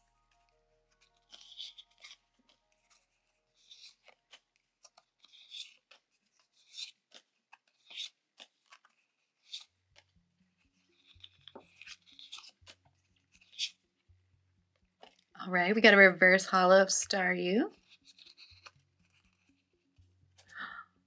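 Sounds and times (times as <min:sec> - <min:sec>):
foil wrapper crinkling: 0:00.0 - 0:14.1, 0:17.7 - 0:20.6.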